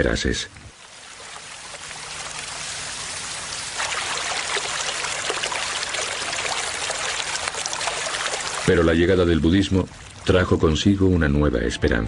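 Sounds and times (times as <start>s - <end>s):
small stream trickling: 0.0s - 10.9s.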